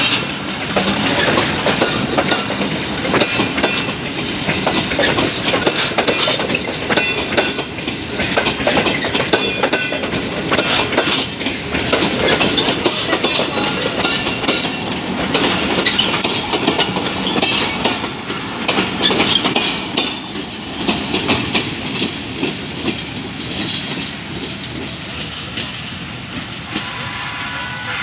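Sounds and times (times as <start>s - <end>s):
train wheels clattering over rail joints: 0.0s - 26.8s.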